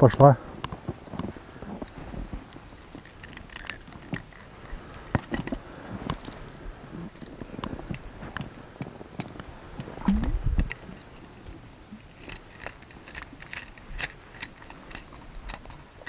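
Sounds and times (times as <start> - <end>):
fishing gear clicks and scrapes: 0.6 - 16.0.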